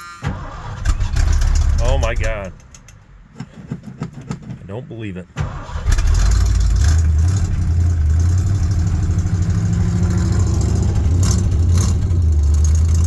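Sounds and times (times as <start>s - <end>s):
car engine running: 0.3s - 2.9s, 3.7s - 13.0s.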